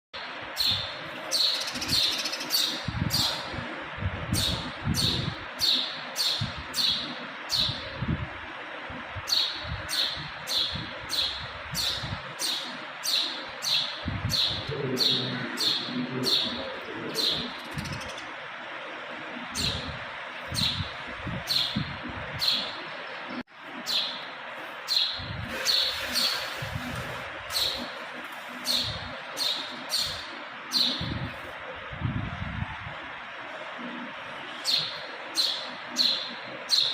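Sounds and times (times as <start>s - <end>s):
background bird chatter: 0.2s - 3.7s, 4.3s - 8.0s, 9.2s - 31.6s, 33.5s - 36.9s.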